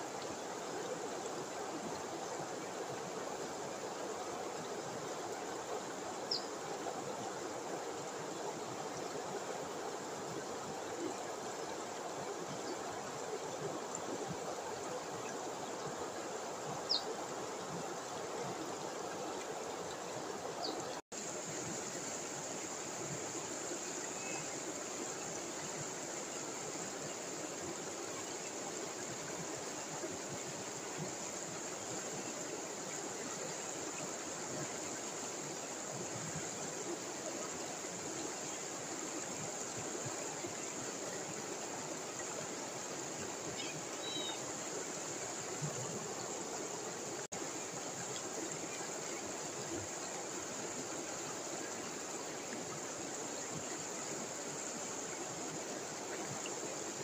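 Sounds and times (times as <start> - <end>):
river water rushing over weir: 0.0 - 57.0.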